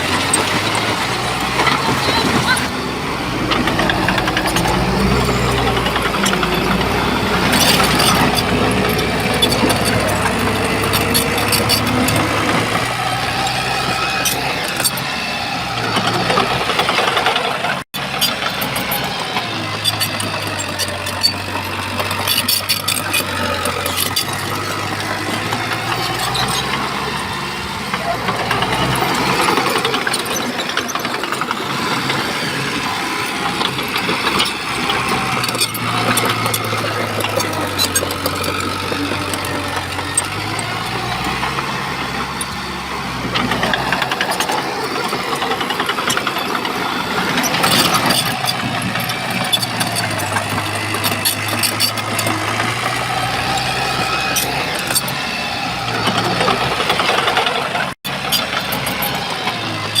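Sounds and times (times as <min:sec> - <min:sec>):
metal clanks and rattles: 0:00.0 - 0:15.1, 0:15.8 - 1:00.0
bulldozer diesel engine under load: 0:00.0 - 1:00.0.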